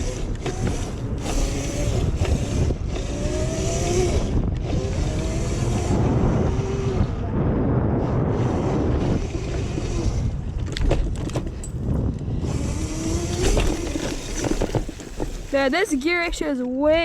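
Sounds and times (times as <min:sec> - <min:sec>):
bike rattling over rough ground: 0:00.0 - 0:06.5, 0:08.2 - 0:17.0
electric motor and chain whining: 0:00.0 - 0:07.2, 0:08.0 - 0:16.8
tyre rumble: 0:00.0 - 0:17.0
wind on microphone: 0:00.0 - 0:17.0.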